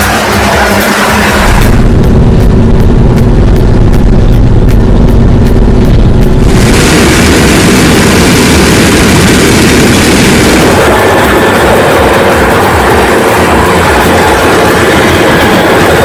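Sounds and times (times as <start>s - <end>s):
large machine running loudly: 0.0s - 16.0s.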